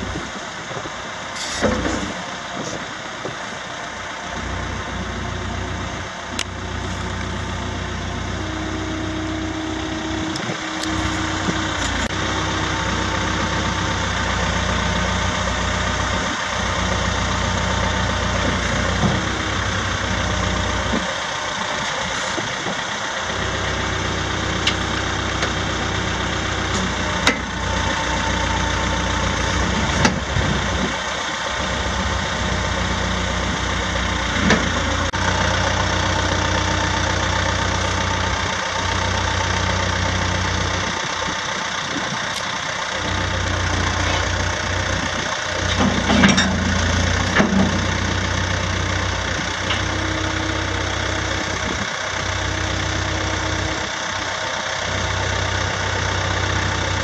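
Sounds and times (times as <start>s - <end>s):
diesel engine running: 0.0s - 57.0s
hydraulics working: 0.0s - 57.0s.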